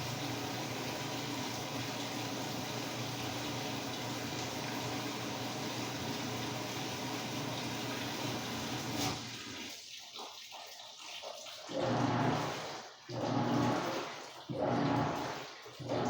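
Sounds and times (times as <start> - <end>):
washing machine hum: 0.0 - 16.0
water rushing in washer: 0.0 - 16.0.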